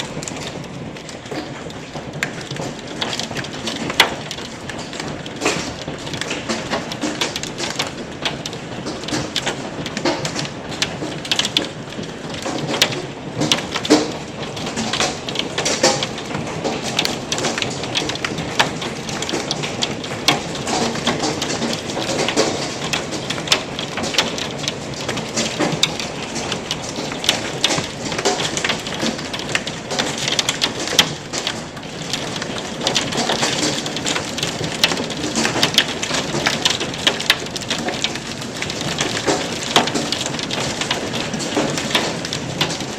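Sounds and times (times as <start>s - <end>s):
hailstones striking hard surfaces: 0.0s - 42.9s.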